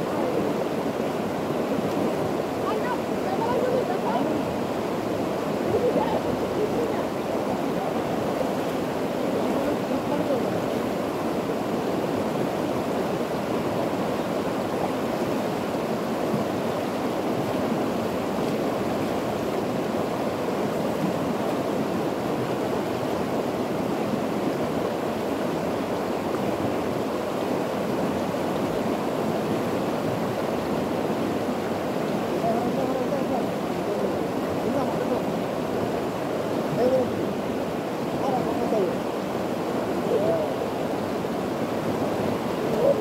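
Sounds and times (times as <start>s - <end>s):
river current rushing: 0.0s - 43.0s.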